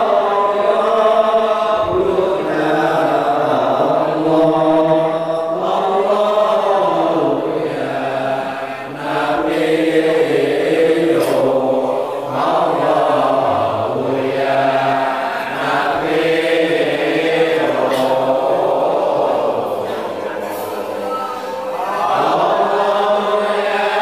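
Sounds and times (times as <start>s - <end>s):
men chanting together: 0.0s - 24.0s.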